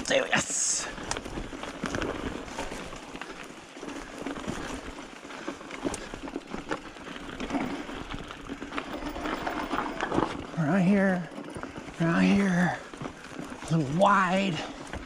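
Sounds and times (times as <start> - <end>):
bike clicks and rattles: 0.0 - 15.0
bike tyres rolling on dirt: 0.0 - 15.0.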